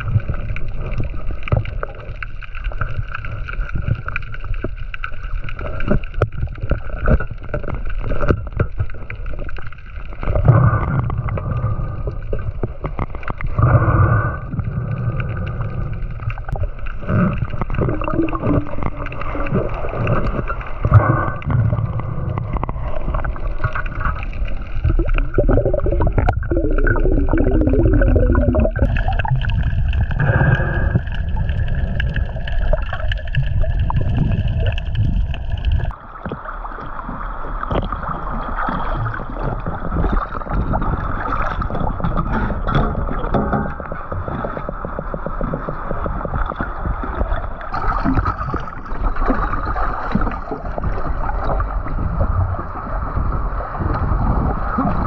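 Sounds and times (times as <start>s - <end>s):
bubbly gurgling: 0.0s - 55.0s
underwater rumble and gurgling: 0.0s - 55.0s.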